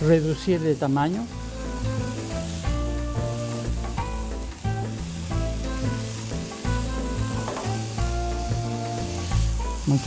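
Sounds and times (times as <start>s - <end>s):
background music with bass line: 0.0s - 10.0s
mushrooms sizzling in a pan: 0.0s - 10.0s.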